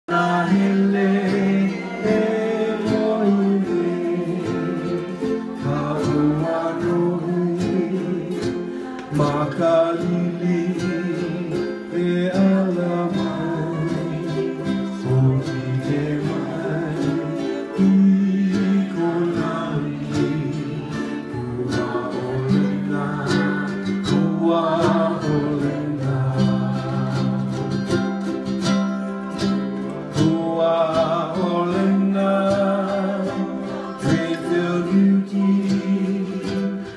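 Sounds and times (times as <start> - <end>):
ukuleles strumming: 0.0 - 36.9
people singing: 0.1 - 36.9.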